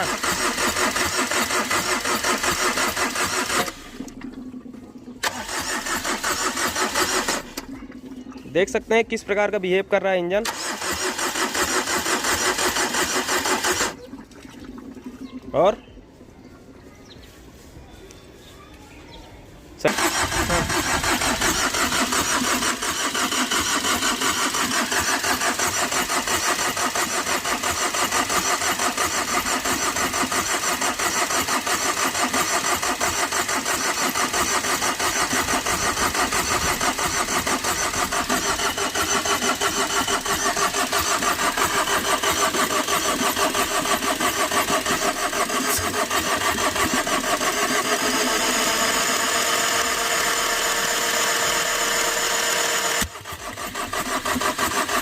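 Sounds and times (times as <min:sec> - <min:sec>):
diesel engine cranking on starter: 0:00.0 - 0:14.1, 0:19.8 - 0:55.0.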